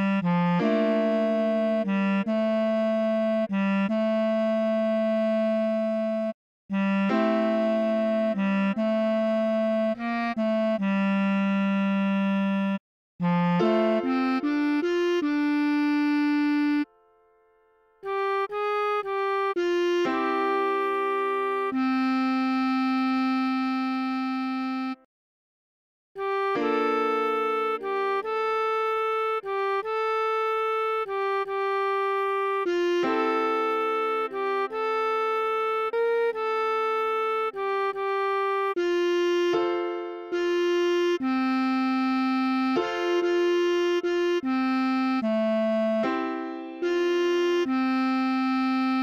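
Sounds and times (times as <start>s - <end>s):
bass clarinet melody: 0.0s - 16.9s, 18.0s - 25.0s, 26.2s - 49.0s.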